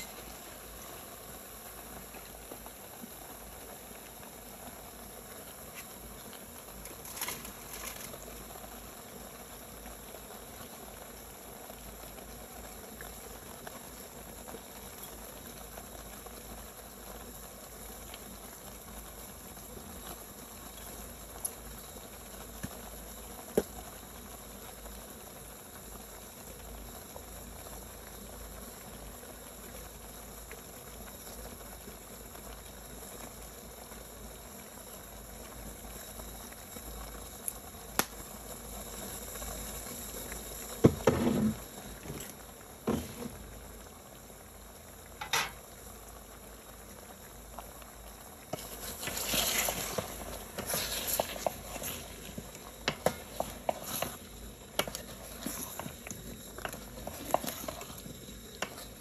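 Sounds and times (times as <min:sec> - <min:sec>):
pot of food bubbling: 0:00.0 - 0:59.0.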